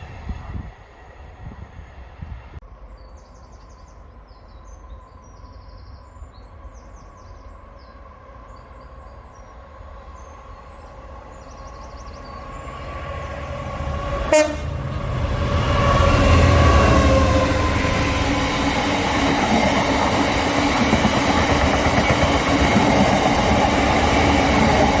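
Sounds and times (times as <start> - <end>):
diesel locomotives rumbling: 0.0 - 3.5, 4.6 - 25.0
birds chirping: 1.2 - 25.0.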